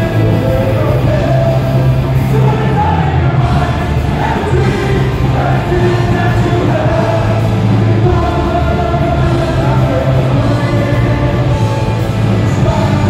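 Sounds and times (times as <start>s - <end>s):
person singing: 0.0s - 13.0s
punk rock band playing live: 0.0s - 13.0s.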